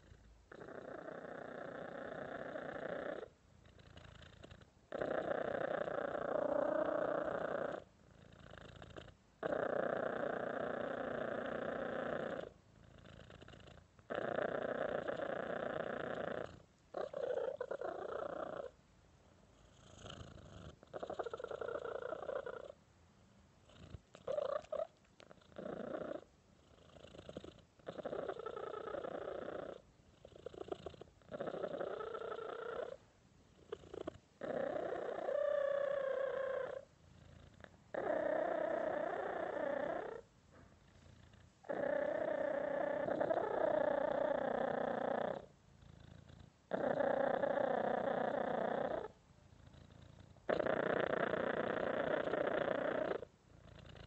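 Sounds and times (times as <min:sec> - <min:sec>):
cat purring: 0:00.0 - 0:18.8, 0:19.5 - 0:22.8, 0:23.6 - 0:54.0.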